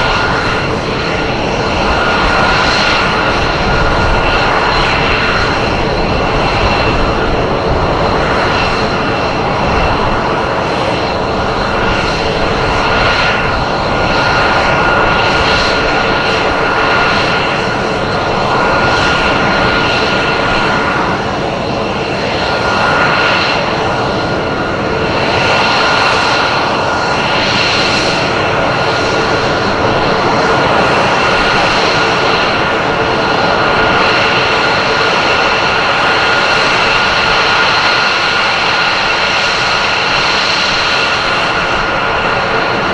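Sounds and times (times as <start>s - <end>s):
aircraft engine drone with whine: 0.0s - 42.9s.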